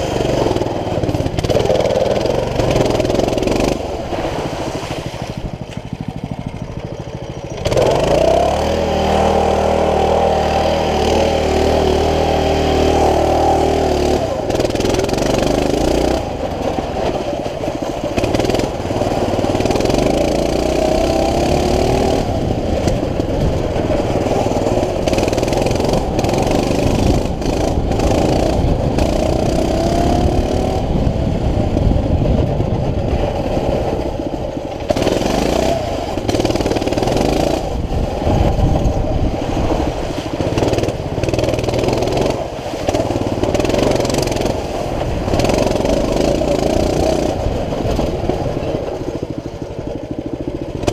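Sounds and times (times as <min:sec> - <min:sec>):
bike rattling over rough ground: 0:00.0 - 0:50.9
mini bike engine revving: 0:00.0 - 0:50.9.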